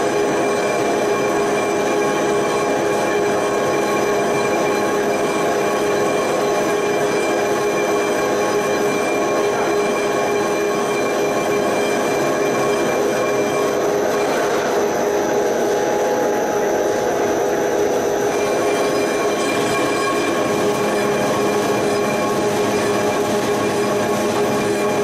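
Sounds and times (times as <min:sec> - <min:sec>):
lathe cutting steel: 0:00.3 - 0:15.2, 0:18.2 - 0:25.0.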